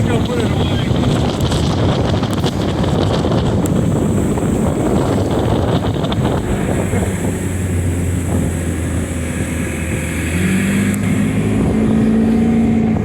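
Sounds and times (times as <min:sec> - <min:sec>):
outboard motor running: 0:00.0 - 0:13.0
wind rushing over microphone: 0:00.0 - 0:13.0.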